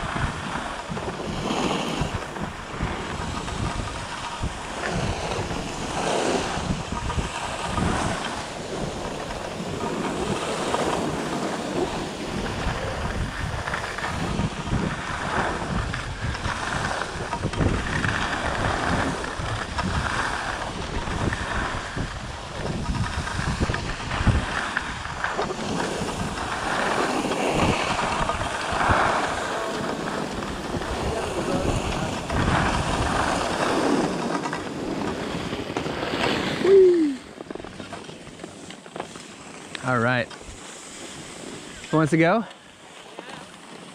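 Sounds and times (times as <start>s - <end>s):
wind on microphone: 0.0s - 42.4s
skis scraping on snow: 0.0s - 43.9s.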